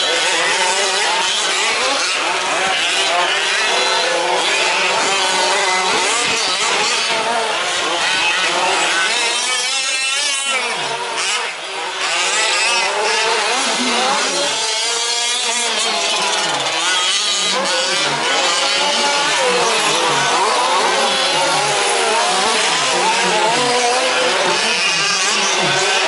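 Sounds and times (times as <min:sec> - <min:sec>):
rc truck engines buzzing: 0:00.0 - 0:26.0.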